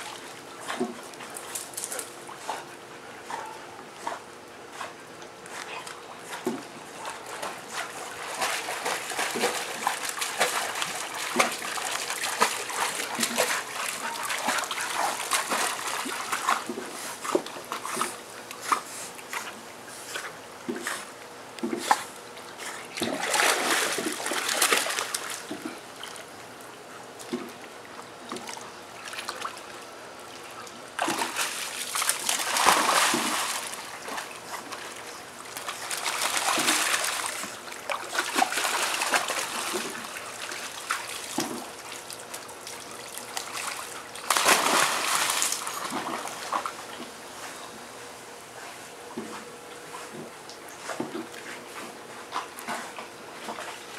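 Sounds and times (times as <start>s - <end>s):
dogs splashing in water: 0.0s - 5.1s, 6.2s - 26.4s, 27.1s - 47.1s.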